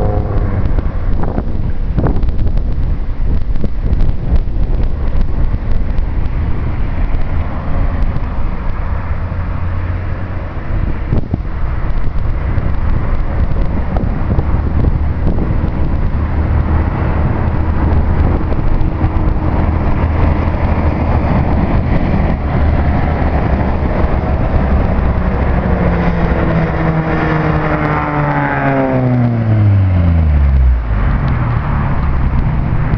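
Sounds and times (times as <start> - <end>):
car engine and exhaust rumbling: 0.0 - 32.9.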